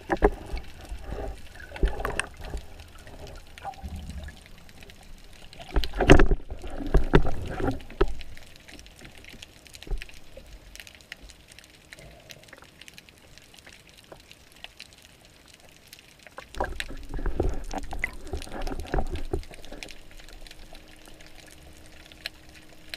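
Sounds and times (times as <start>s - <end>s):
water churning and bubbling: 0.0s - 22.9s.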